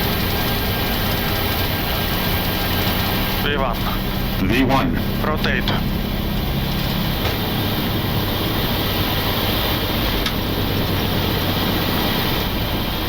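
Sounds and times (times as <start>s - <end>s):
jet engine and airflow rush: 0.0s - 13.0s
low hum: 0.0s - 13.0s.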